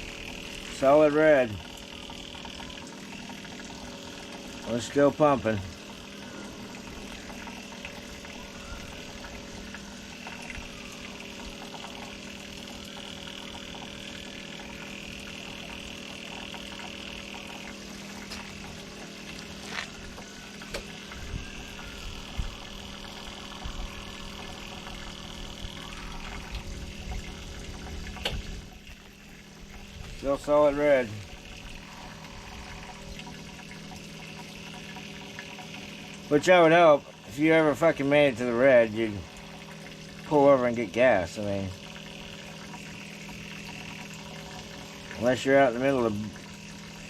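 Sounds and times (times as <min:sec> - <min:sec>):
electric fuel pump humming: 0:00.0 - 0:47.0.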